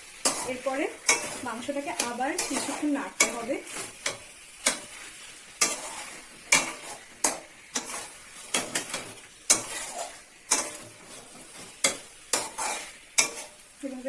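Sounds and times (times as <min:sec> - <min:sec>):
faint sizzle: 0:00.0 - 0:14.0
spatula scraping a pan: 0:00.0 - 0:14.0.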